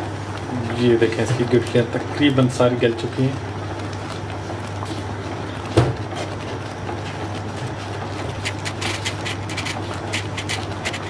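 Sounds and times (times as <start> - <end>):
ladle stirring thick paste: 0.4 - 11.0.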